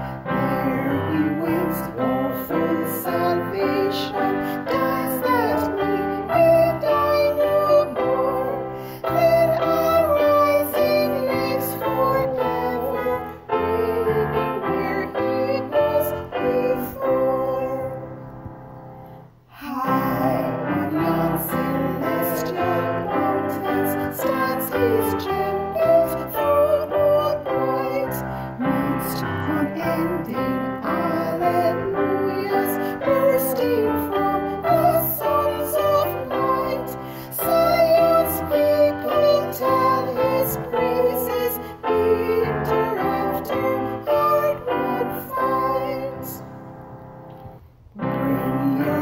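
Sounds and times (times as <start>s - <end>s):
hymn singing: 0.0s - 18.1s, 19.5s - 46.7s, 47.3s - 49.0s
piano accompaniment: 0.0s - 49.0s.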